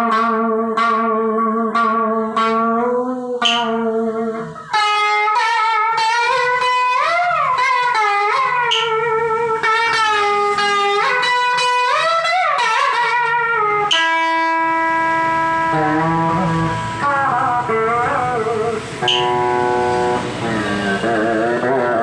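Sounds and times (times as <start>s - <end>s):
electric steel guitar playing: 0.0s - 22.0s.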